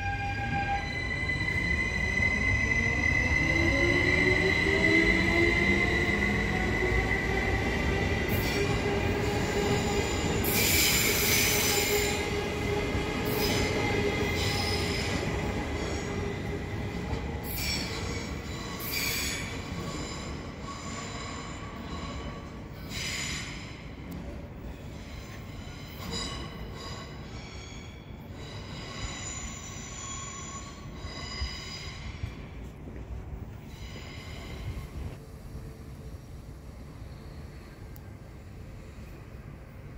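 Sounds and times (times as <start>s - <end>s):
wheels squealing on rails: 0.0s - 24.0s, 24.6s - 32.8s, 33.6s - 35.2s.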